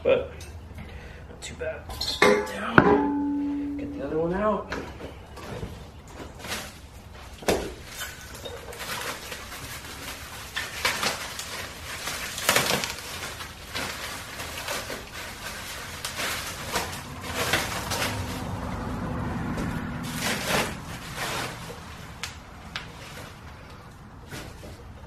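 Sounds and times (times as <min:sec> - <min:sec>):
plastic and cardboard rustling: 0:04.8 - 0:25.0.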